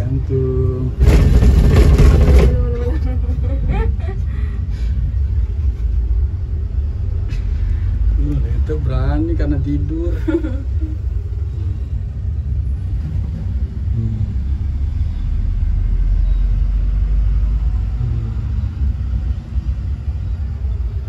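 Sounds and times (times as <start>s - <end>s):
cable car cabin rumble: 0.0s - 21.0s.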